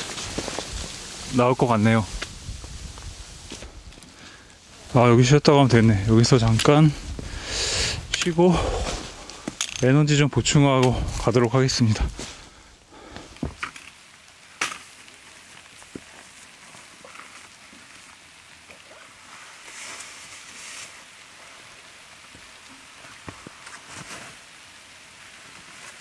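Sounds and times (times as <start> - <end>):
light rain hissing: 0.0 - 26.0
rustle: 0.0 - 26.0.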